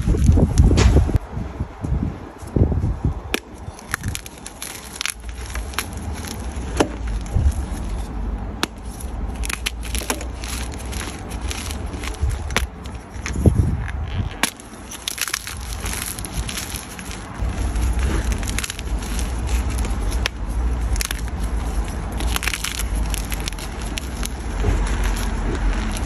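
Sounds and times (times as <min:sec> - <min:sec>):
wind rumble on microphone: 0:00.0 - 0:26.0
chalk being crushed: 0:03.3 - 0:26.0.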